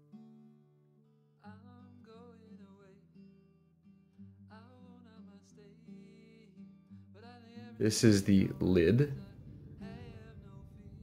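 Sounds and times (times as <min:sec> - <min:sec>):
acoustic guitar background music: 0:00.0 - 0:11.0.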